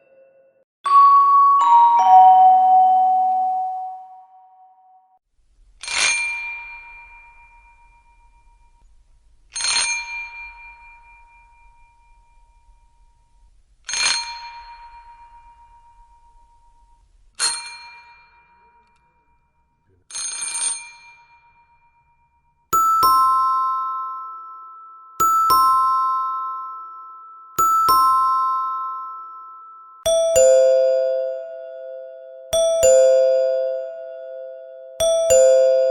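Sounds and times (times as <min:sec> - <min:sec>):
ding-dong doorbell chime: 0:00.0 - 0:05.2, 0:05.9 - 0:08.9, 0:09.5 - 0:35.9.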